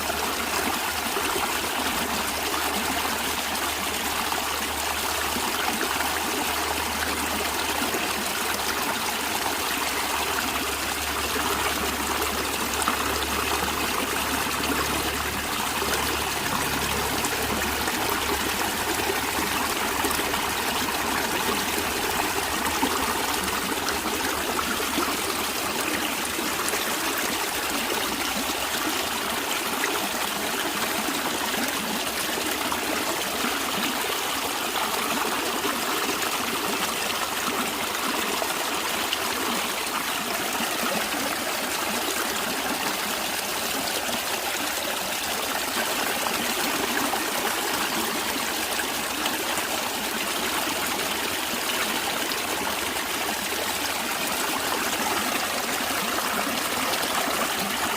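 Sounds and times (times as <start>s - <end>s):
stream of water trickling: 0.0s - 57.9s.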